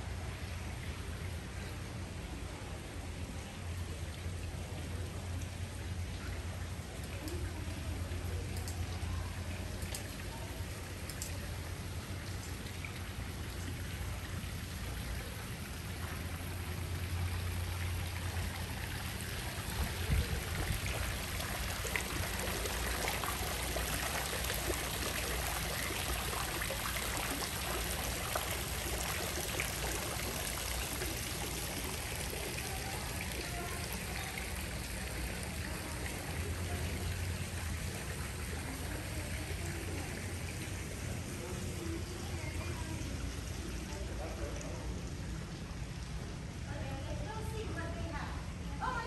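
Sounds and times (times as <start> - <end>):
fountain water splashing: 0.0 - 49.0.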